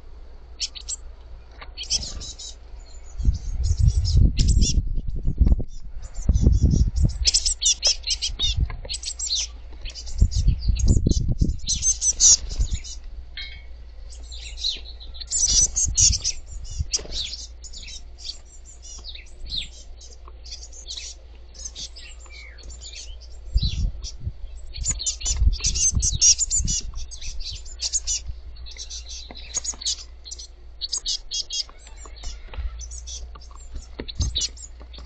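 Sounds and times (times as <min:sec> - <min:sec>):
young birds chirping rapidly: 0:00.5 - 0:35.0.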